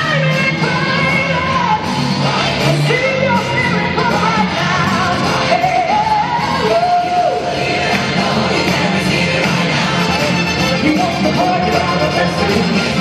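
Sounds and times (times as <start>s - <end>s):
band playing: 0.0s - 13.0s
gospel choir singing: 1.6s - 13.0s.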